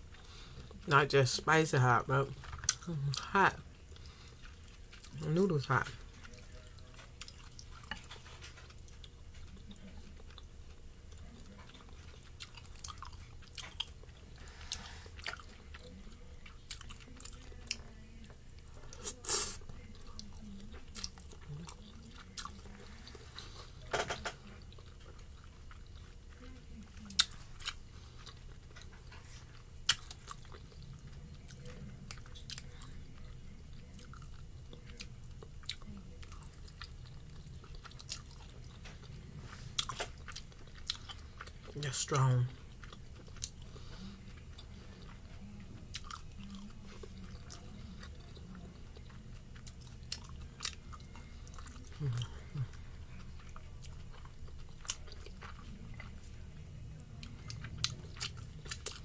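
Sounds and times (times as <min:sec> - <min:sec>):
chewing noodles: 0:02.3 - 0:59.0.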